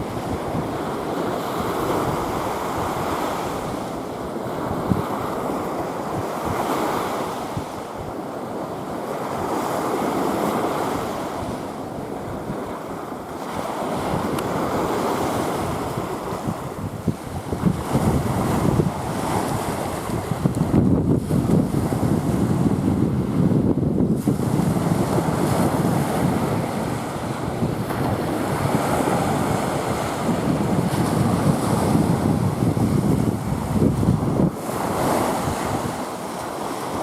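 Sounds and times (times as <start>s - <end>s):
sea waves washing in: 0.0s - 37.0s
wind buffeting microphone: 0.0s - 37.0s.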